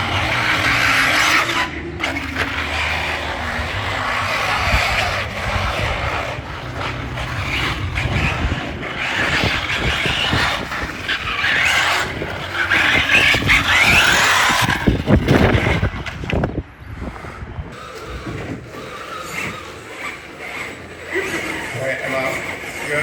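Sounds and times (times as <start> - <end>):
radio-controlled car motor whining: 0.0 - 23.0.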